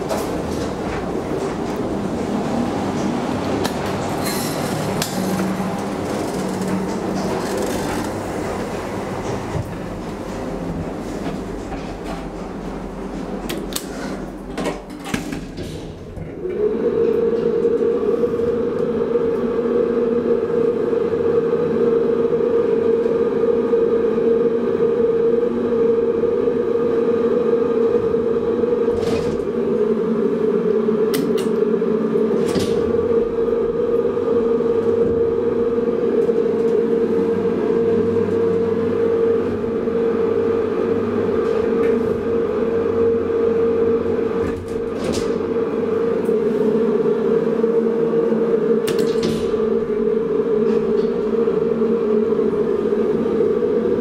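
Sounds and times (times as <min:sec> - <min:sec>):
hydraulic elevator pump hum: 0:00.0 - 0:54.0.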